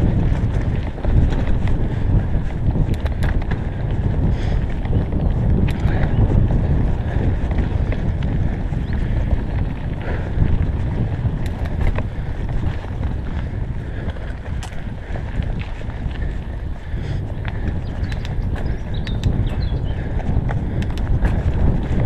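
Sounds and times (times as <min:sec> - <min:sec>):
bike clicks and knocks: 0:00.0 - 0:22.0
bike tyres rumbling on dirt trail: 0:00.0 - 0:22.0
wind buffeting microphone: 0:00.0 - 0:22.0.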